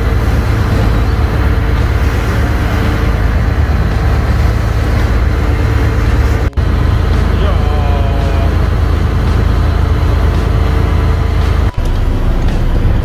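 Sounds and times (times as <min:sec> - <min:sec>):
boat engine rumbling: 0:00.0 - 0:13.0
water rushing past hull: 0:00.0 - 0:13.0.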